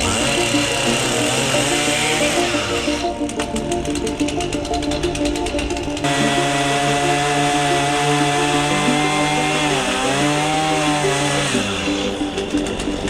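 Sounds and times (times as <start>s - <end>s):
chainsaw cutting into log: 0.0s - 3.5s, 6.0s - 13.0s.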